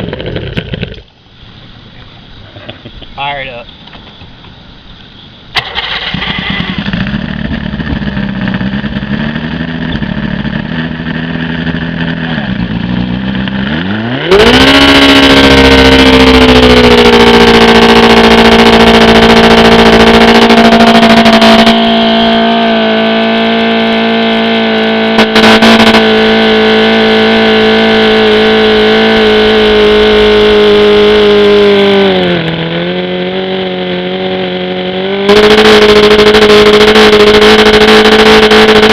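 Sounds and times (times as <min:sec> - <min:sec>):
outboard motor revving: 0:00.0 - 0:01.1, 0:05.6 - 0:38.9.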